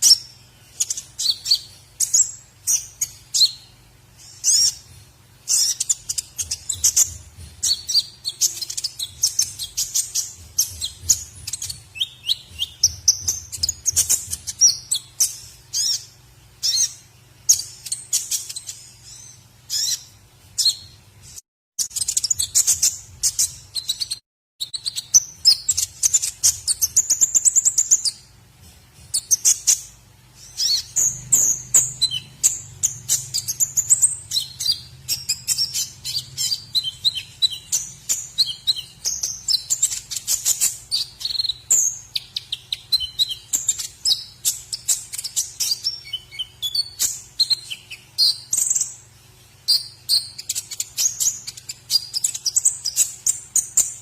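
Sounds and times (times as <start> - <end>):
bird singing chirps and trills: 0.0 - 28.3, 29.0 - 54.0.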